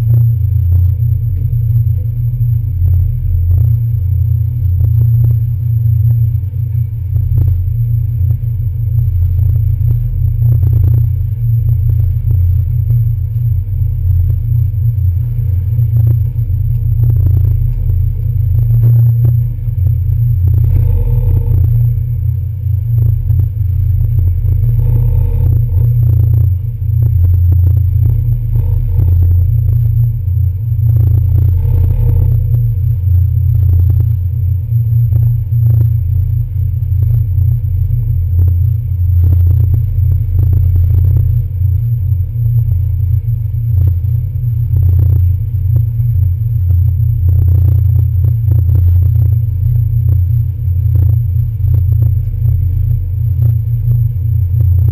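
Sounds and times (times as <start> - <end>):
diesel engine rumble: 0.0 - 54.9.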